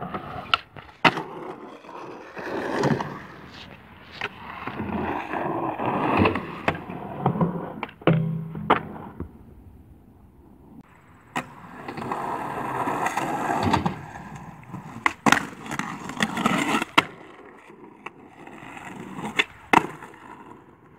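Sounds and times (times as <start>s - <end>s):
skateboard clacking on ground: 0.0s - 9.5s, 11.2s - 20.9s
skateboard wheels rolling: 0.0s - 20.9s.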